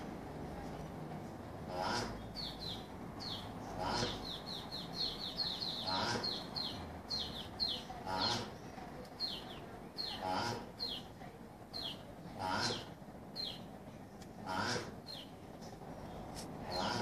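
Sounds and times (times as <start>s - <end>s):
small birds chirping: 0.5s - 17.0s.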